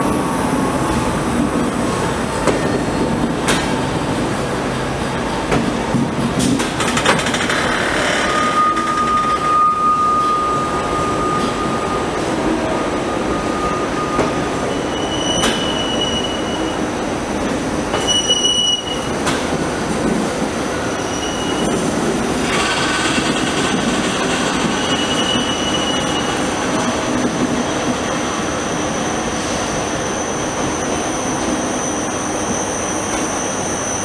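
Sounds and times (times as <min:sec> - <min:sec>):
train rumbling: 0:00.0 - 0:34.0
train wheels squealing on rails: 0:06.4 - 0:34.0.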